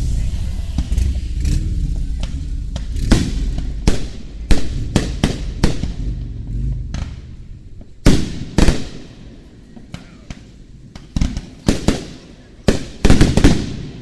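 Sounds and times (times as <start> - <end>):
fireworks bursting in sharp bangs: 0.0 - 14.0.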